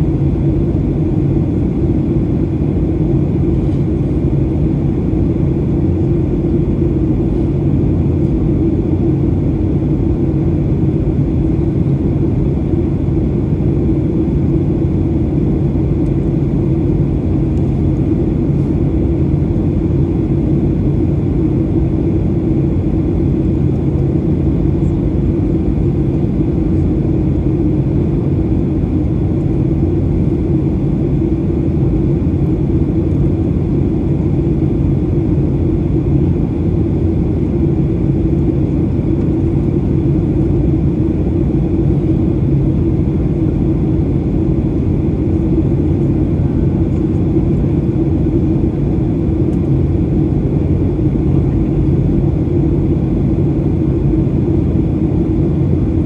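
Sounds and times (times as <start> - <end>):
jet engine drone: 0.0 - 56.0
steady low hum: 0.0 - 56.0.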